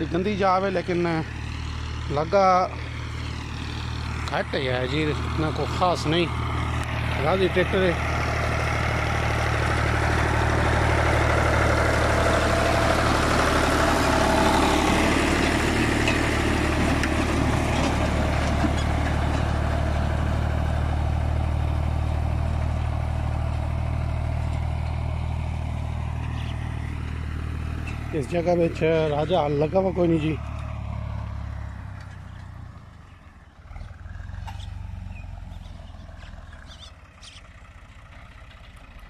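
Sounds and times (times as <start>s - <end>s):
harrow rough mechanical noise: 0.0s - 39.0s
tractor diesel engine under load: 0.0s - 39.0s.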